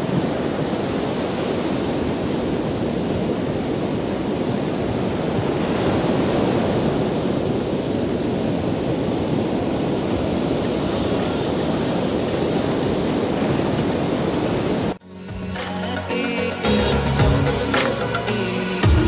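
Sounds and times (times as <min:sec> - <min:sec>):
ocean surf breaking on shore: 0:00.0 - 0:19.0.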